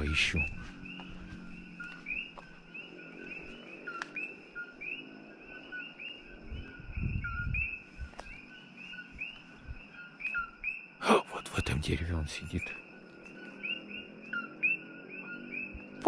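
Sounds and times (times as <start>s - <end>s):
frogs chirping: 0.0s - 16.0s.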